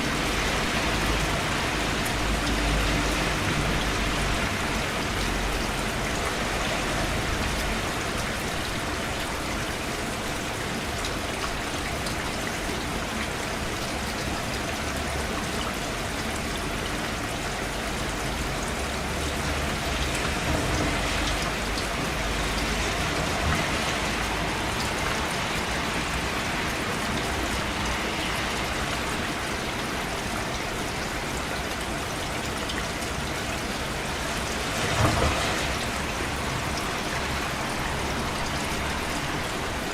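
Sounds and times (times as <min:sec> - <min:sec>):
individual raindrops: 0:00.0 - 0:39.9
rain falling: 0:00.0 - 0:39.9.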